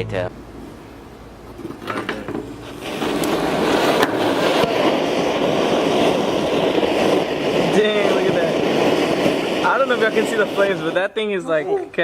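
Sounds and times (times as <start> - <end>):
flamethrower rushing hiss: 0.4 - 12.0.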